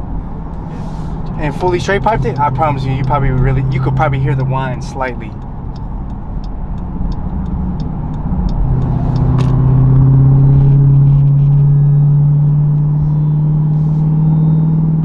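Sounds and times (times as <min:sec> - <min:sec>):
engine exhaust drone: 0:00.0 - 0:15.0.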